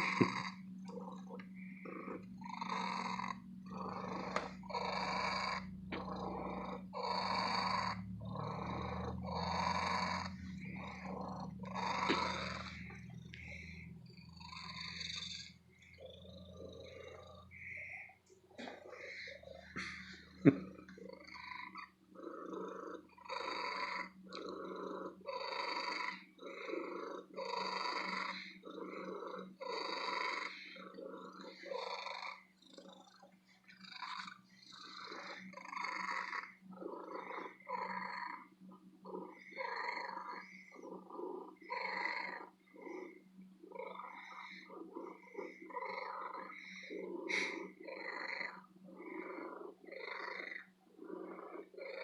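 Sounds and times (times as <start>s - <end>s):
cat purring loudly: 0.0s - 52.0s.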